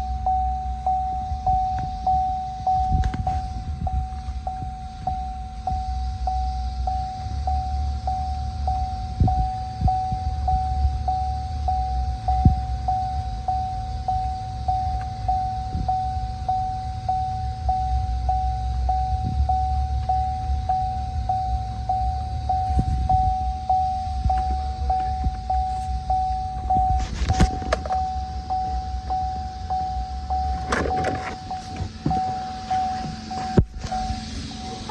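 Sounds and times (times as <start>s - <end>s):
dashboard warning chime beeping: 0.0s - 34.9s
truck engine idling: 0.0s - 34.9s.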